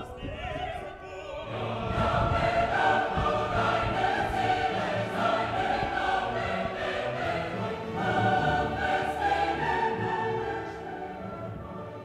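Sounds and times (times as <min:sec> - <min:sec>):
voices singing long held notes: 0:00.0 - 0:12.0.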